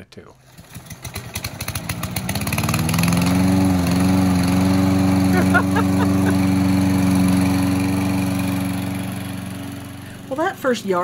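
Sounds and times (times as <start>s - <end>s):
lawn mower engine: 0.4s - 11.0s.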